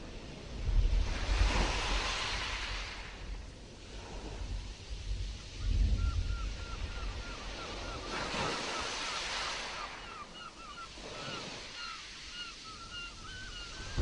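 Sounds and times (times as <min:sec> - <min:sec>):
stormy sea waves surging: 0:00.0 - 0:14.0.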